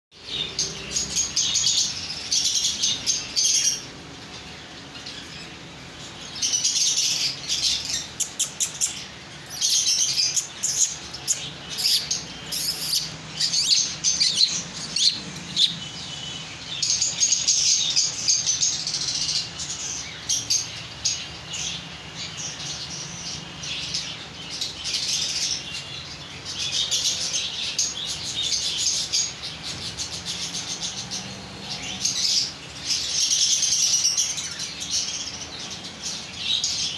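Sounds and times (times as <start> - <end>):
caged birds chirping: 0.1 - 36.9.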